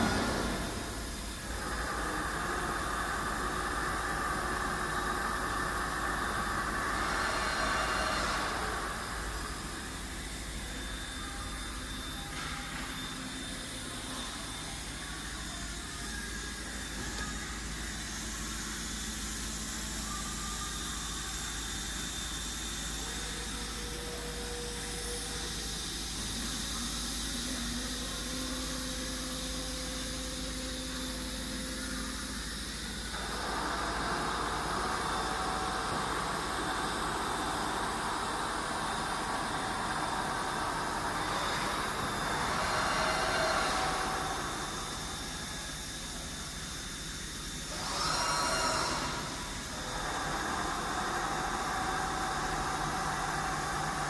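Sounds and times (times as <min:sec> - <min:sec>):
machine whines: 0:00.0 - 0:54.0
milling machine humming: 0:00.0 - 0:54.0.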